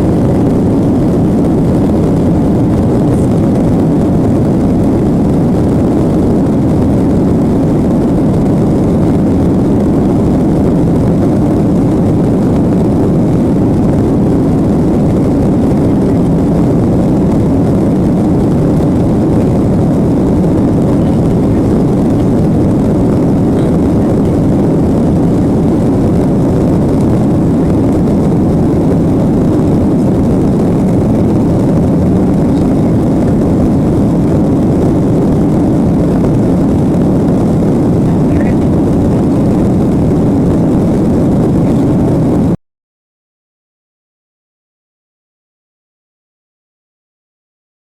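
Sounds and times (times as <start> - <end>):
jet engine noise in cabin: 0.0 - 42.6.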